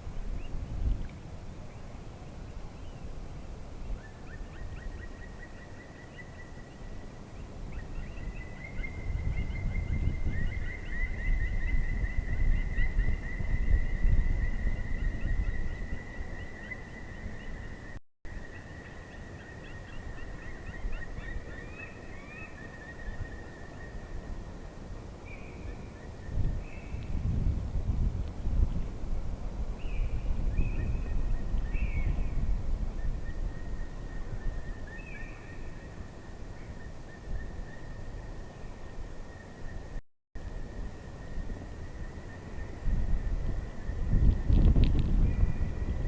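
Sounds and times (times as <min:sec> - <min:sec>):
wind rumble on microphone: 0:00.0 - 0:18.0, 0:20.0 - 0:46.0.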